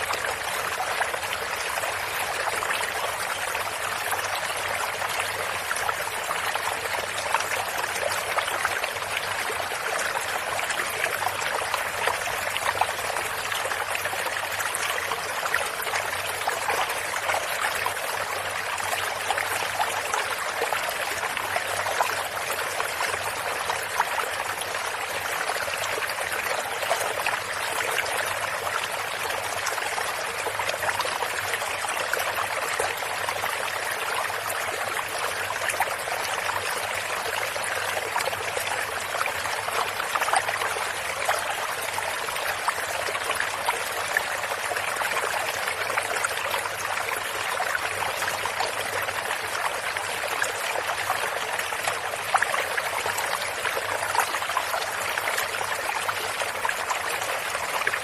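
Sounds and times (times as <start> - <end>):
creek water flowing over stones: 0.0 - 58.0.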